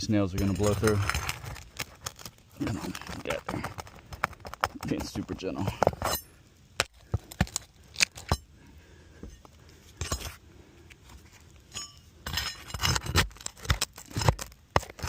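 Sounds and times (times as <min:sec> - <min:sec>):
metal tool clinking and scraping: 0:00.0 - 0:08.5, 0:09.2 - 0:10.4, 0:11.6 - 0:15.0.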